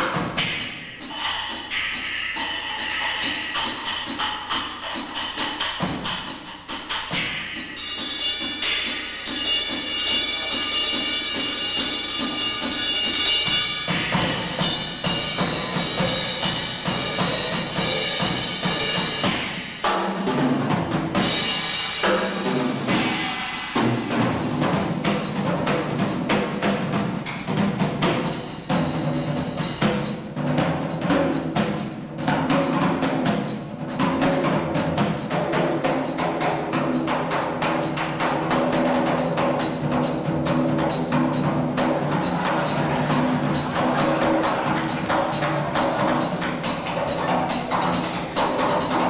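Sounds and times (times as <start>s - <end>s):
cymbals ringing: 0.0s - 49.0s
drum kit solo: 0.0s - 49.0s.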